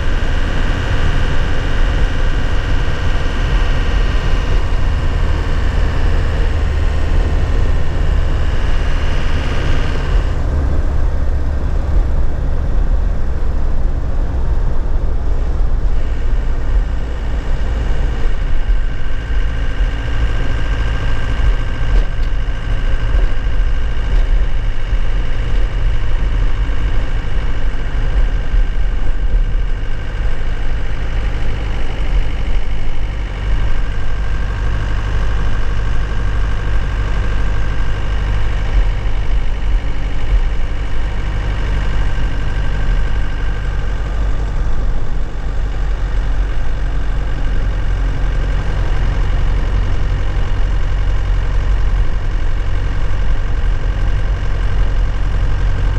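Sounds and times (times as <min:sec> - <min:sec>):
truck engine drone from inside cab: 0:00.0 - 0:55.9.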